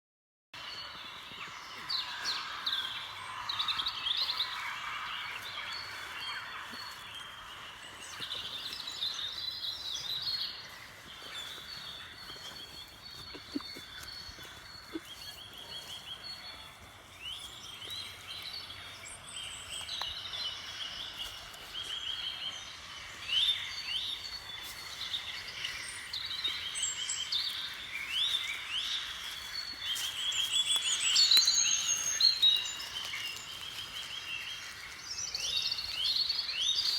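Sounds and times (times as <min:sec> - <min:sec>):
songbirds trilling and chirping: 0:00.6 - 0:36.9.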